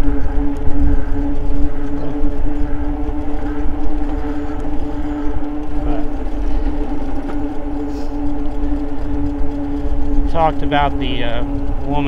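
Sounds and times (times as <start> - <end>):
electric bike hum: 0.0 - 12.0
wind rumbling on microphone: 0.0 - 12.0.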